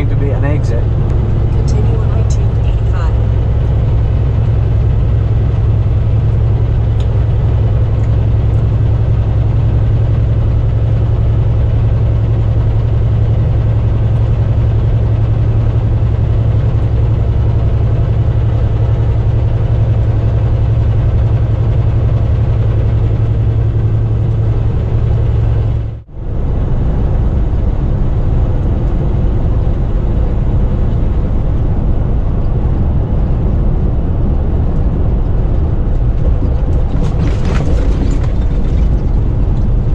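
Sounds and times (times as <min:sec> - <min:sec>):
road noise: 0:00.0 - 0:39.9
truck engine hum: 0:00.0 - 0:39.9.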